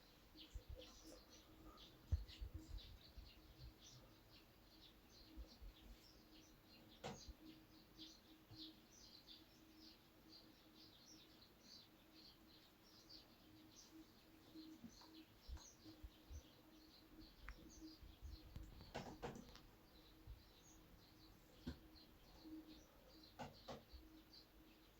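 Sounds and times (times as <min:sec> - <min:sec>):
faint birds chirping: 0:00.0 - 0:24.9.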